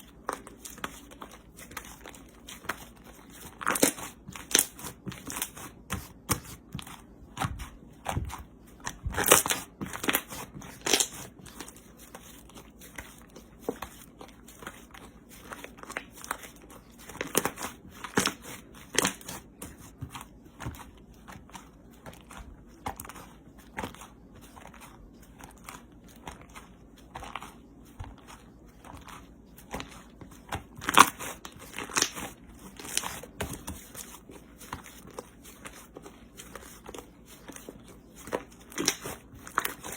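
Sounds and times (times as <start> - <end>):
hands squishing crunchy slime: 0.0 - 39.9.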